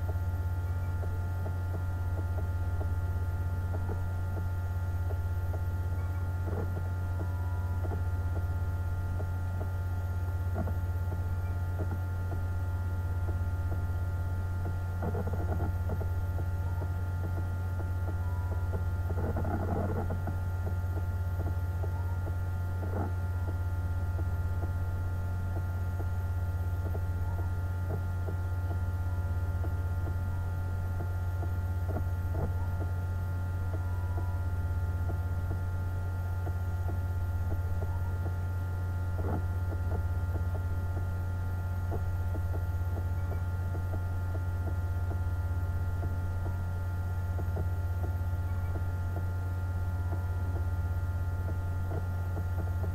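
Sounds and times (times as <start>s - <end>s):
faint ticks: 0.0s - 14.0s, 14.6s - 52.9s
low electrical hum: 0.0s - 52.9s.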